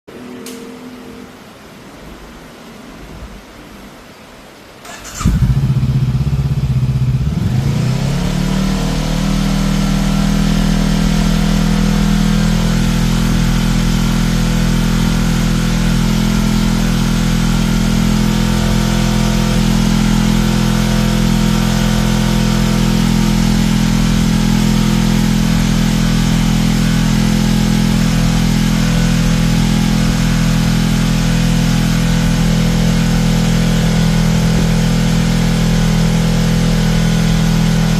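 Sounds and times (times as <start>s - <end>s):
motorcycle engine starting and idling: 4.8s - 37.9s.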